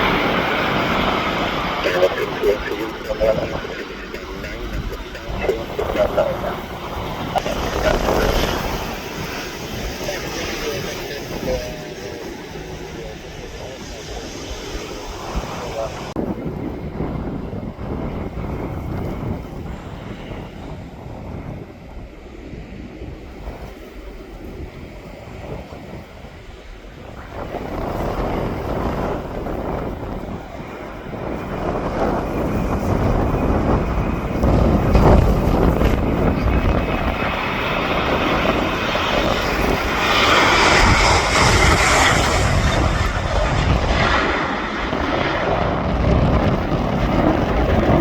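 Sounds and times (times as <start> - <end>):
airliner engines passing: 0.0 - 48.0
wind buffeting microphone: 0.0 - 48.0.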